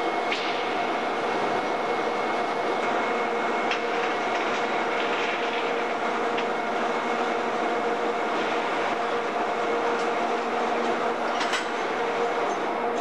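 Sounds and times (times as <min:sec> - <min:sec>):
constant hums: 0:00.0 - 0:13.0.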